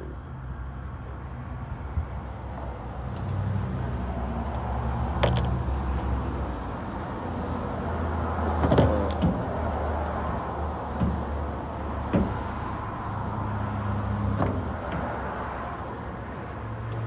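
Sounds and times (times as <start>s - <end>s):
low vehicle hum: 0.0s - 17.0s.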